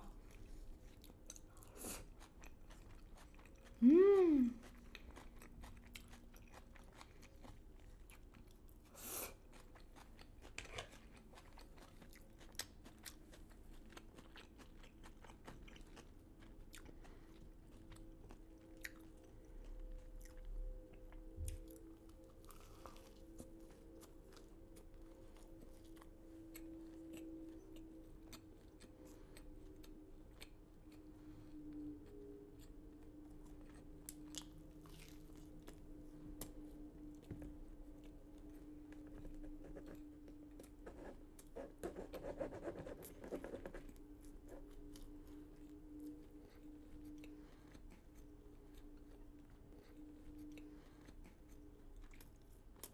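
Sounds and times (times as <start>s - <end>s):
person chewing and crunching food: 0.0s - 52.9s.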